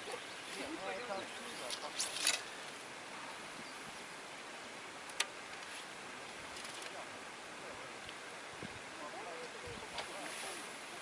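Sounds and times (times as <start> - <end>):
faint open-air hiss: 0.0 - 11.0.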